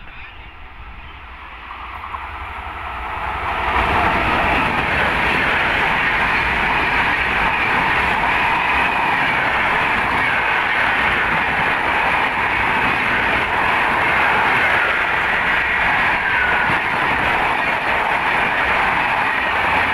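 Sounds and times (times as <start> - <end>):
train roaring past: 0.0 - 19.9.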